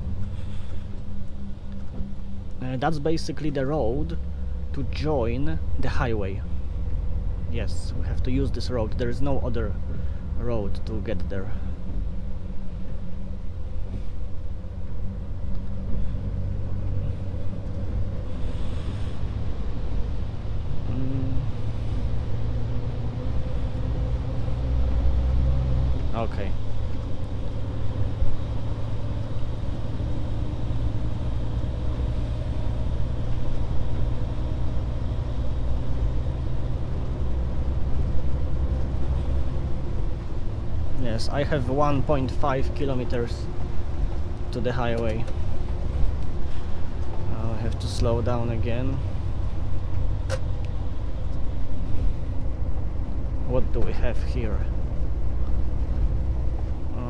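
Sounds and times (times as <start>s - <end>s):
truck engine and road drone: 0.0s - 57.0s.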